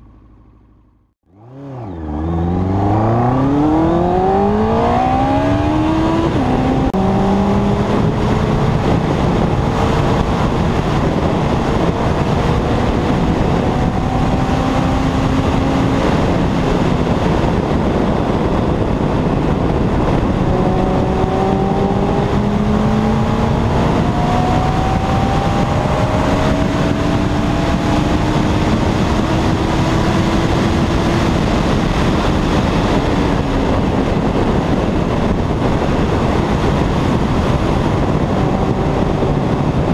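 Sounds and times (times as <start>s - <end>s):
motorcycle engine at high speed: 0.0s - 39.9s
wind roar on microphone: 1.3s - 39.9s.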